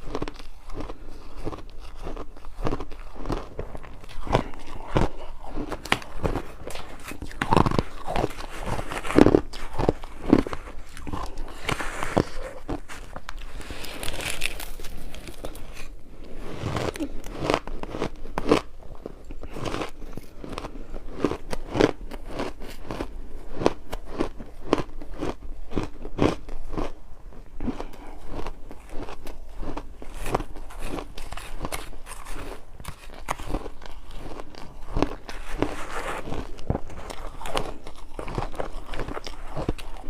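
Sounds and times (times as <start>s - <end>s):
ice crunching between teeth: 0.0s - 40.0s.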